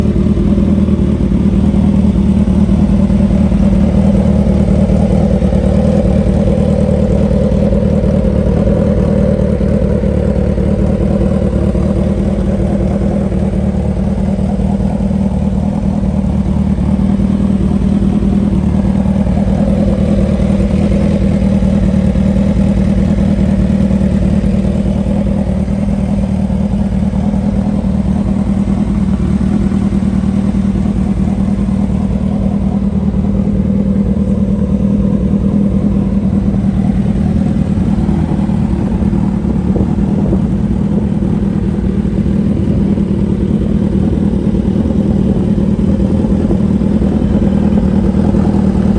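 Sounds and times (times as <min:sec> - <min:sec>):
motorcycle engine idling: 0:00.0 - 0:48.9.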